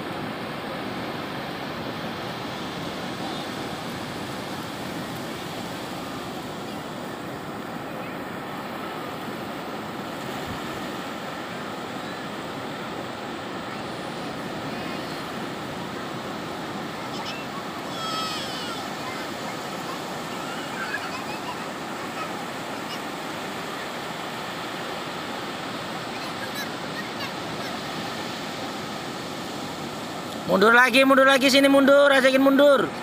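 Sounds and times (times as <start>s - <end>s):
ocean surf breaking on beach: 0.0s - 33.0s.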